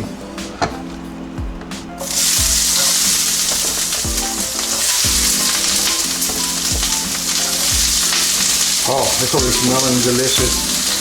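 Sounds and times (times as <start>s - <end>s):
onions sizzling in hot oil: 2.0s - 11.0s.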